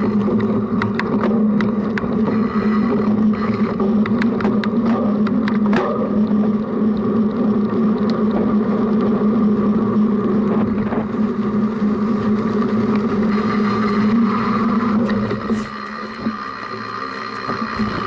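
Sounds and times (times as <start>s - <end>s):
bike tyres and frame humming: 0.0s - 18.0s.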